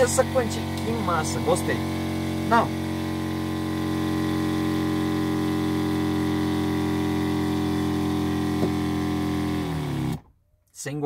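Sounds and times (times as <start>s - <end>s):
water pump humming: 0.0s - 10.2s.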